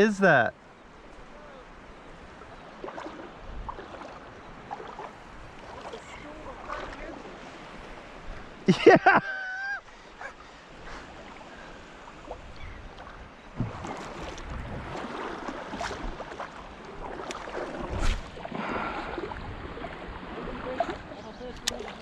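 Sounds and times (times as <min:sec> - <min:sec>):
shallow water splashing: 0:00.9 - 0:22.0.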